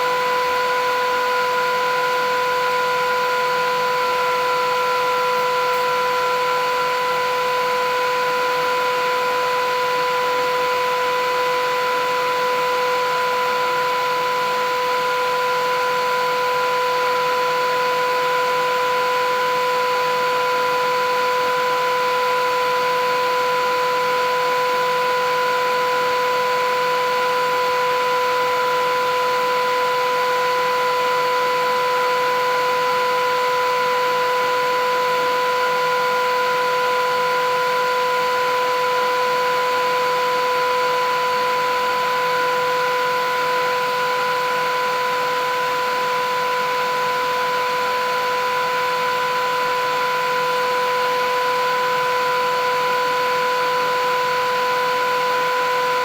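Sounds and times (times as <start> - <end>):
vacuum cleaner motor whine: 0.0 - 56.0.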